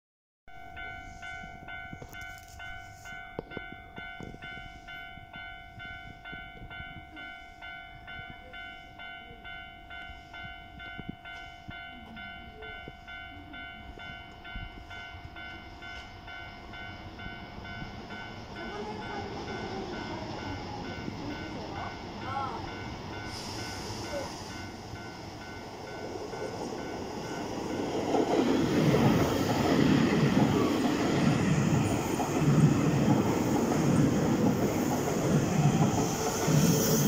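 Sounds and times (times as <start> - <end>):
level-crossing warning bell: 0.5 - 37.0
electric train rumble: 0.6 - 37.0.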